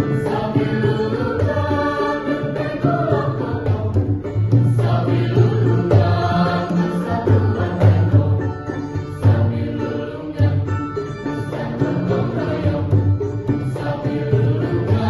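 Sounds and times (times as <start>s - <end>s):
mixed choir singing: 0.0s - 15.0s.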